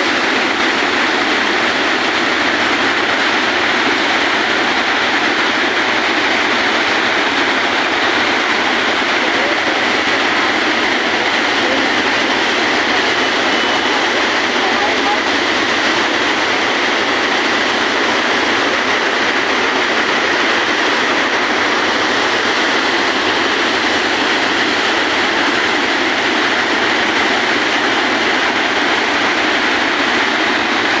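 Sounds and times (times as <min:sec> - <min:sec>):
water rushing: 0:00.0 - 0:31.0.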